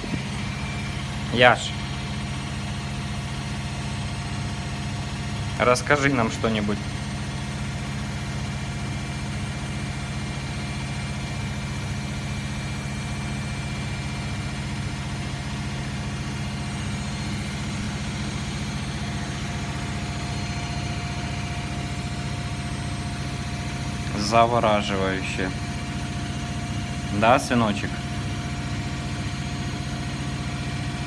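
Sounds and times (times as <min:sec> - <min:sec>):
faint steady whine: 0:00.0 - 0:31.0
washing machine hum: 0:00.0 - 0:31.0.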